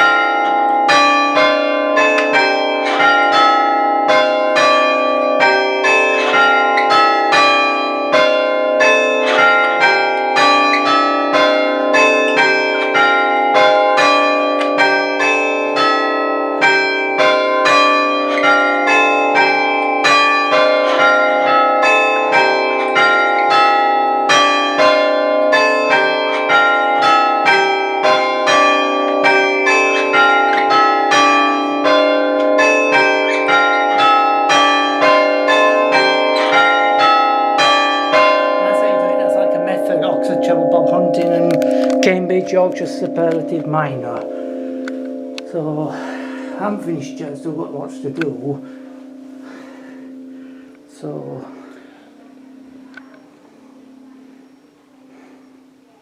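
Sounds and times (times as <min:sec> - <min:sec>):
church bells chiming: 0:00.0 - 0:56.0.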